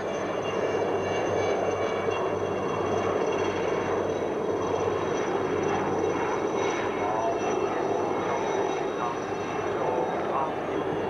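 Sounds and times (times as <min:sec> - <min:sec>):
helicopters flying past: 0:00.0 - 0:11.0.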